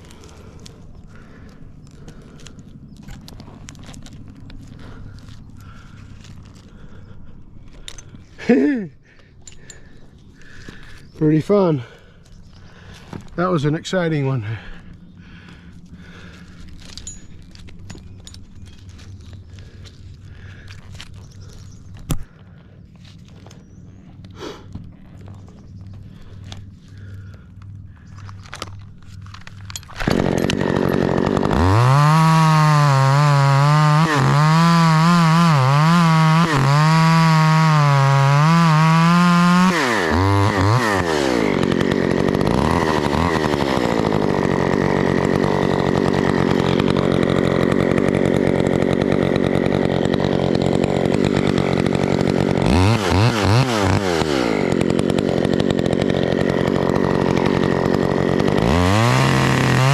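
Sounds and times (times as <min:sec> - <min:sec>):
chainsaw cutting wood: 0:00.0 - 0:12.2, 0:12.8 - 0:59.9.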